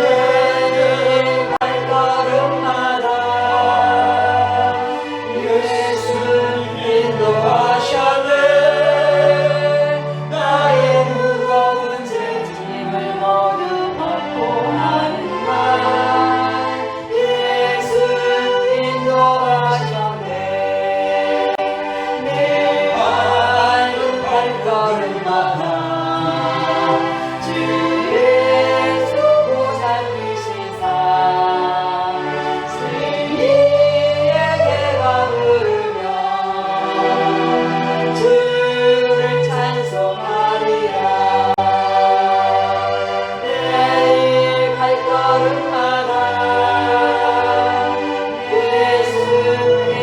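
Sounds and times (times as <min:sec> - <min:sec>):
choir singing a hymn: 0:00.0 - 0:50.0.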